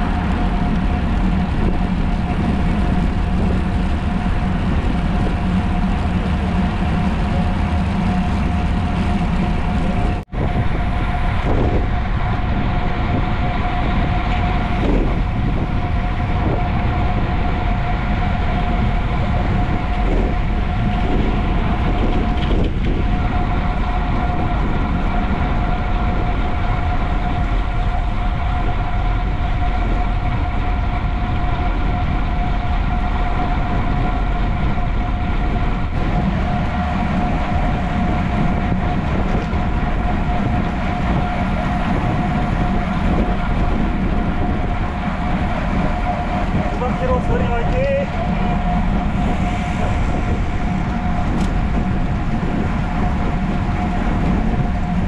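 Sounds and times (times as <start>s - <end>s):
bicycle rolling noise: 0.0s - 55.0s
constant hum: 0.0s - 55.0s
wind on camera: 0.0s - 55.0s.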